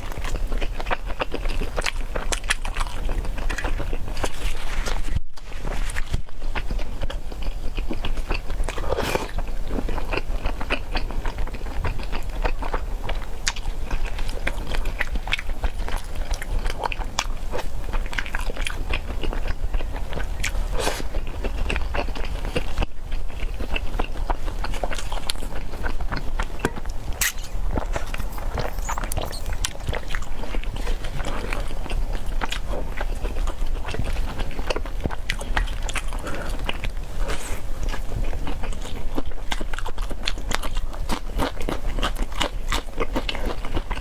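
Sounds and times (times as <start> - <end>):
close biting and chewing: 0.0 - 44.0.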